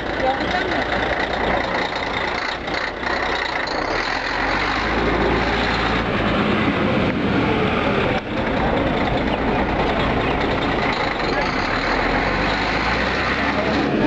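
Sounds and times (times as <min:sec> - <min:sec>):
diesel bus engine idling: 0:00.0 - 0:14.0.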